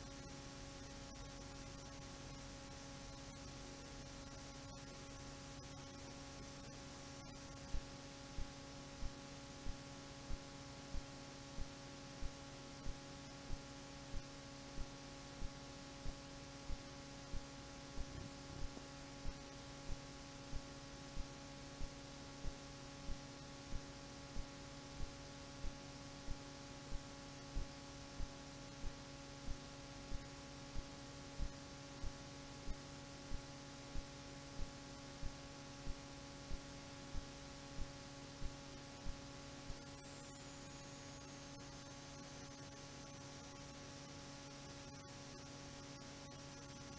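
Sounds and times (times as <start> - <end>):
electrical hum: 0.0 - 46.9.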